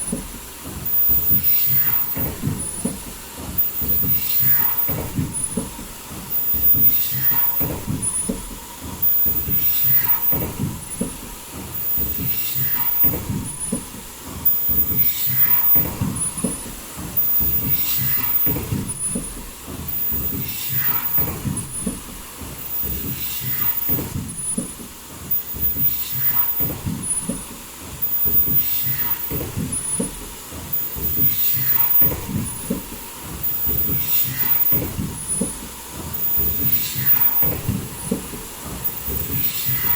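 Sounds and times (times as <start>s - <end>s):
mechanical clatter: 0.0s - 39.9s.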